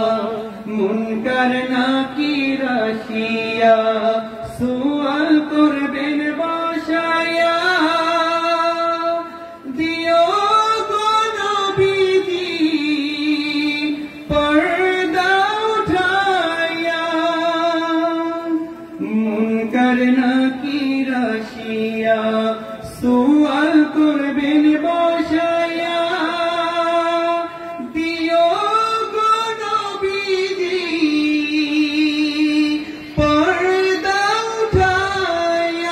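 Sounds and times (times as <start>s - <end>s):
man singing into a microphone: 0.0s - 35.9s.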